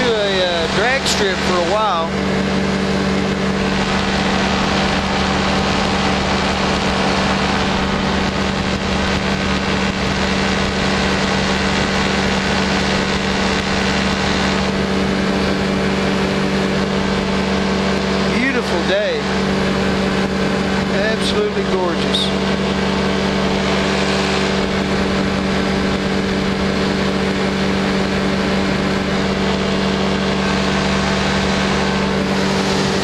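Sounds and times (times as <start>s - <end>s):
propeller engine hum: 0.0s - 33.0s.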